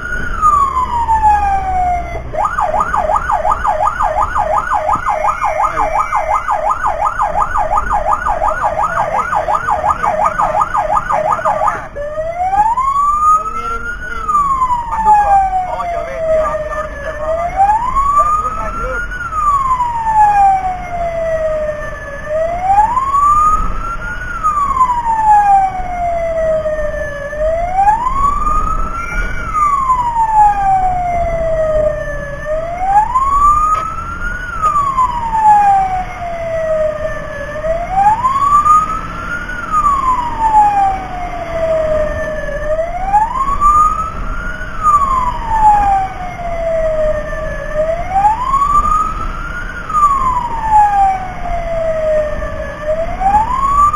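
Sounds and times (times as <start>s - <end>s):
engine and road rumble: 0.0s - 53.9s
fire truck siren wailing: 0.0s - 53.9s.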